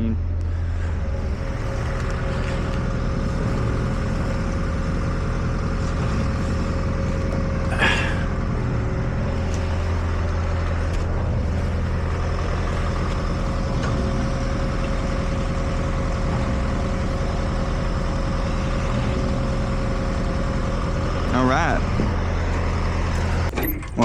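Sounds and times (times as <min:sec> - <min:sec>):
heavy engine idling: 0:00.0 - 0:24.0.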